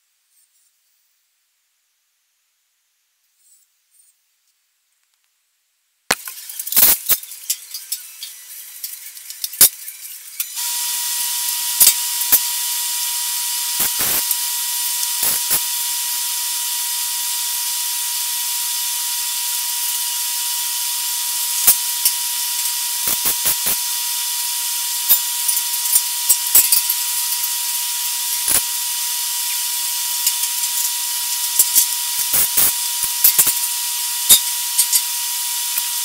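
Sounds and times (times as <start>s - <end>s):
sharp welding bursts: 6.1s - 36.0s
welding set hissing with high whine: 6.1s - 36.0s.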